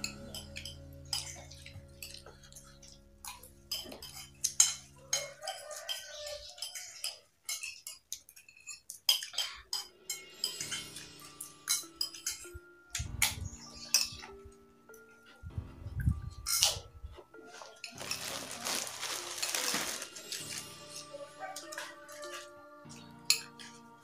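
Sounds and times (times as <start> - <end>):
spoons clinking on plates: 0.0 - 13.1, 13.7 - 15.4, 16.4 - 22.6, 23.3 - 23.8.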